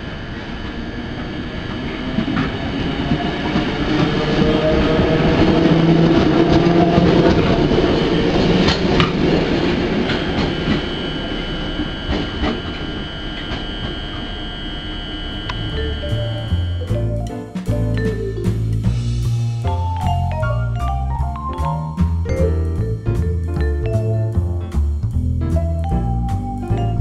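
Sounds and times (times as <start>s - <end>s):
train passing: 0.0s - 23.7s.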